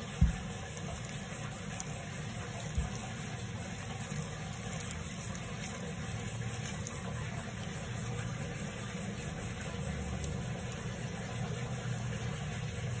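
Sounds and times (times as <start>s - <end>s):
low rumble and hiss: 0.0s - 13.0s.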